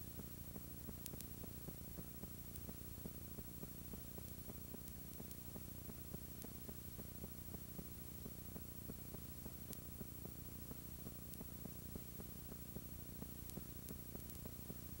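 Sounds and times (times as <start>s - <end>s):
video static hum and hiss: 0.0s - 15.0s
fast crackle of small ticks: 0.5s - 15.0s.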